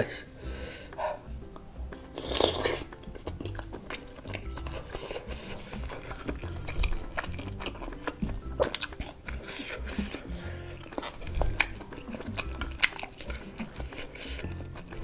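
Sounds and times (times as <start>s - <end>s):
soft background music: 0.0s - 15.0s
chewing a meatball: 1.4s - 15.0s.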